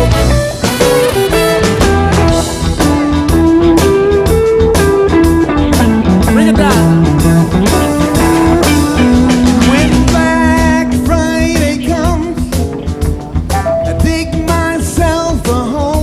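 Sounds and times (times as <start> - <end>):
drum beat: 0.0 - 16.0
rock music with guitar: 0.0 - 16.0.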